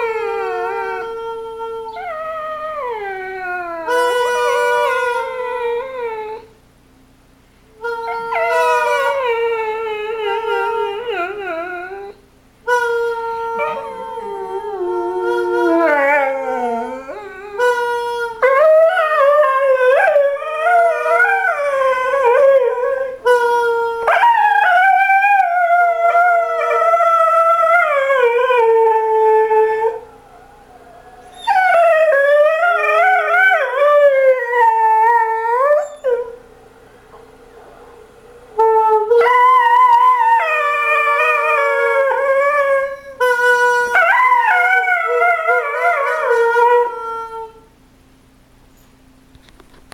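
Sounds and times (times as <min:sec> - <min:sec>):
dog howling: 0:00.0 - 0:06.5, 0:07.8 - 0:47.7.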